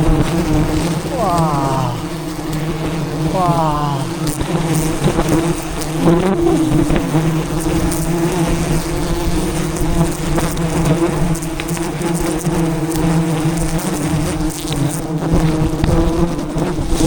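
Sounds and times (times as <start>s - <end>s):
swarm of bees buzzing: 0.0s - 17.0s.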